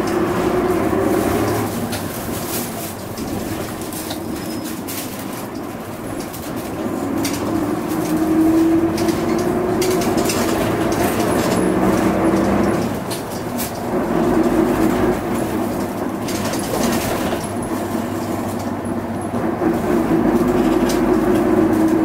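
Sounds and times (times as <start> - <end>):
bus diesel engine: 0.0 - 22.0.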